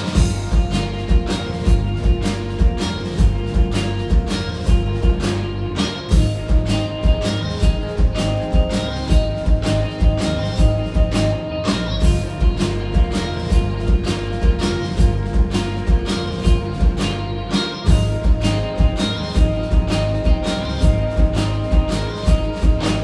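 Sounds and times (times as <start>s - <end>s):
drum beat: 0.0s - 23.0s
electric guitar chords: 0.0s - 23.0s.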